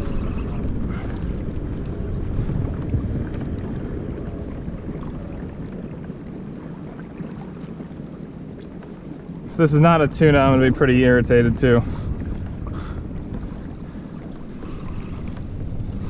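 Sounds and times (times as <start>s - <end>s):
water lapping around kayak: 0.0s - 16.0s
wind noise on microphone: 0.0s - 16.0s.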